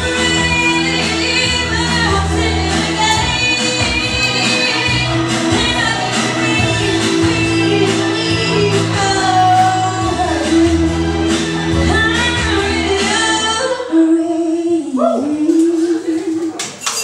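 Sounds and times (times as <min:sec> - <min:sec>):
woman singing into microphone: 0:00.0 - 0:16.6.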